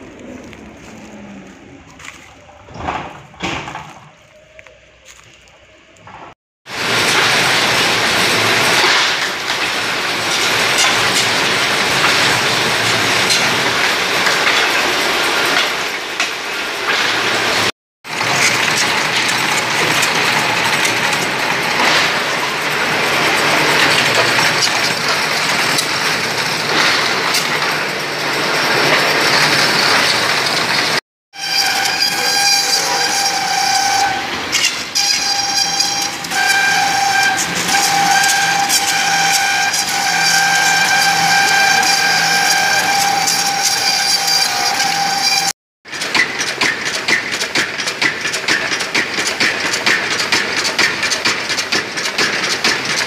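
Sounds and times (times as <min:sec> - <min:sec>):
ridge-cutting machine: 0:06.1 - 0:53.0
bamboo cutting machine chopping: 0:06.7 - 0:53.0.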